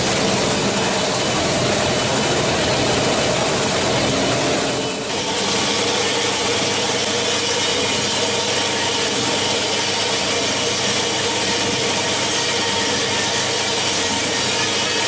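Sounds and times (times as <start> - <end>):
industrial machinery running: 0.0 - 15.0.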